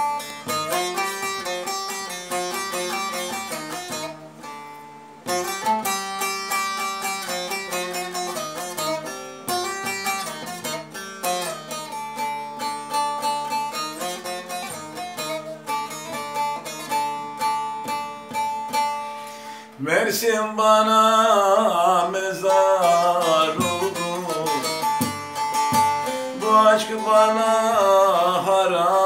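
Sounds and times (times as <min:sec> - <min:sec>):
long-necked lute picked melody: 0:00.0 - 0:29.0.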